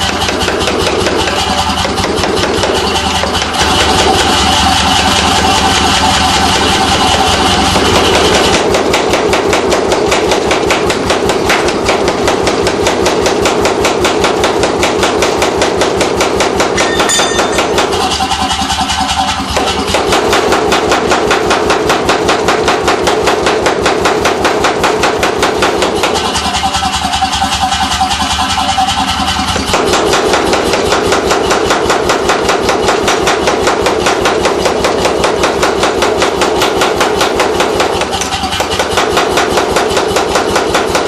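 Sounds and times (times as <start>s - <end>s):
forging hammer blows: 0.0s - 41.0s
motor and air compressor running: 0.0s - 41.0s.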